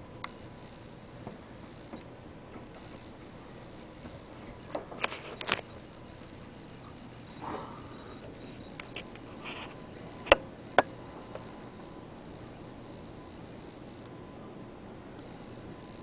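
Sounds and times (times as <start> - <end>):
faint steady high tone: 0.0 - 2.1, 2.7 - 16.0
sharp clicks: 0.2 - 14.1.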